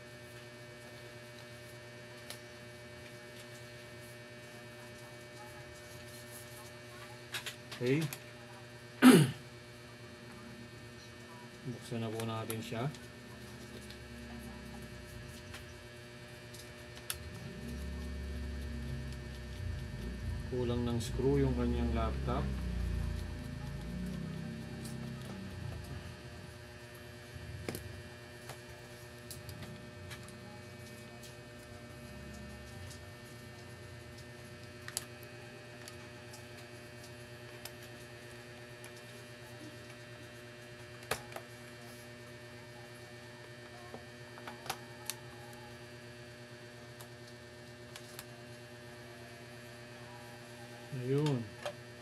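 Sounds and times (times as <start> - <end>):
mains hum: 0.0 - 52.0.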